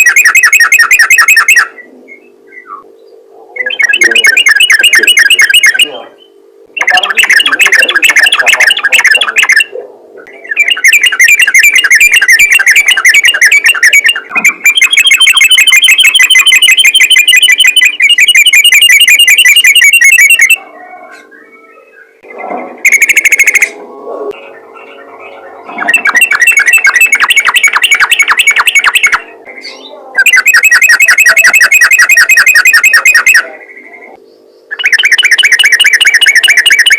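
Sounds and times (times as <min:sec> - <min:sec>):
bird chattering song: 0:00.0 - 0:36.9
faint steady hum: 0:00.0 - 0:36.9.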